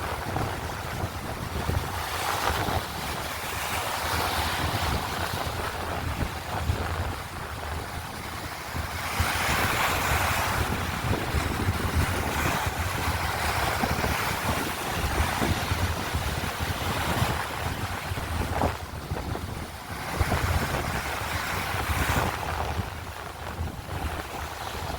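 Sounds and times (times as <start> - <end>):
waves washing onto sand: 0.0 - 24.9
wind buffeting microphone: 0.0 - 24.9.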